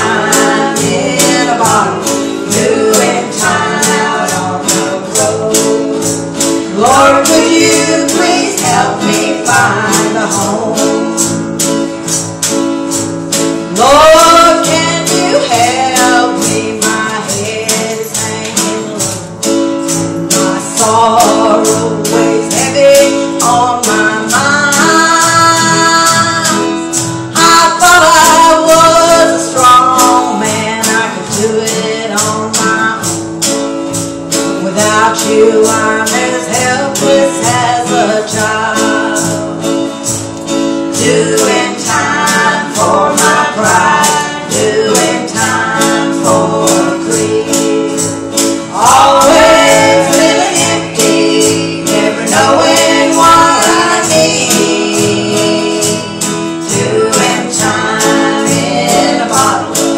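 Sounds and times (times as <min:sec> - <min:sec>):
women singing: 0:00.0 - 0:11.4, 0:13.6 - 0:19.4, 0:20.3 - 0:33.3, 0:34.5 - 0:39.8, 0:40.9 - 0:59.9
strummed acoustic guitar: 0:00.0 - 0:59.9.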